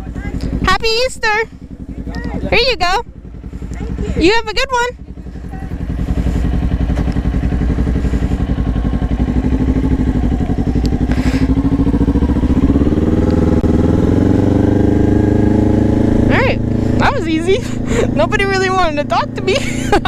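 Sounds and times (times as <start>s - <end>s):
motorcycle engine pulling away: 0.0s - 20.0s.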